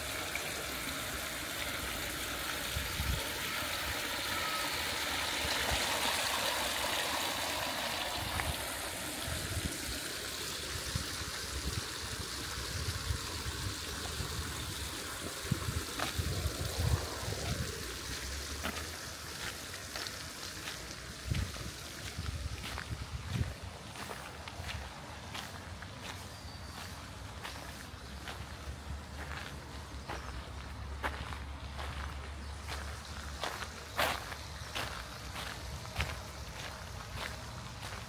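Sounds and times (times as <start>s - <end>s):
fountain splashing into pond: 0.0s - 38.0s.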